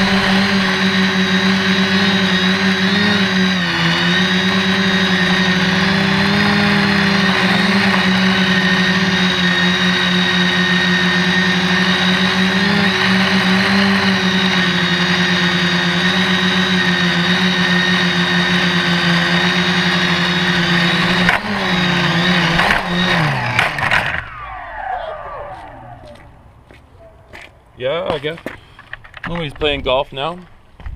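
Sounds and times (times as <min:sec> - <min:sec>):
quadcopter propellers humming: 0:00.0 - 0:29.1.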